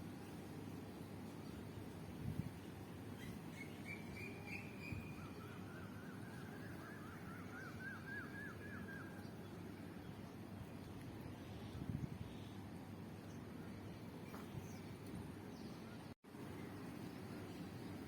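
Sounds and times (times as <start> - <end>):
songbird singing: 3.1 - 18.0.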